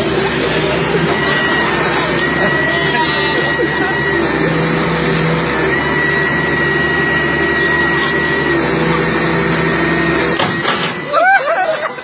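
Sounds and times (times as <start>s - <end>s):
excavator engine and hydraulics: 0.0s - 12.0s
high whine: 0.0s - 12.0s.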